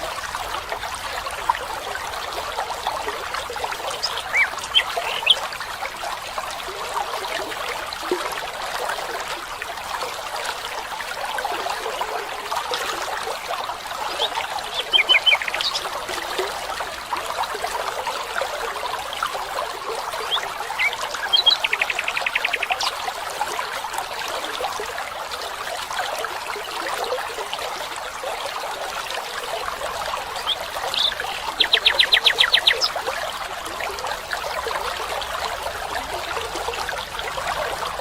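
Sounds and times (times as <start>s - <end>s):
stream trickling: 0.0s - 38.0s.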